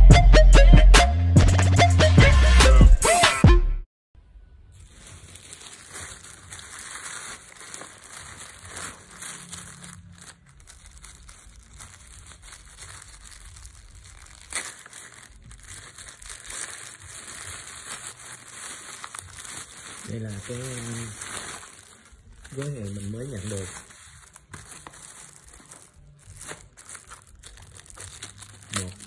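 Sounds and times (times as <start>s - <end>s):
plastic bag crinkling: 4.6s - 29.0s.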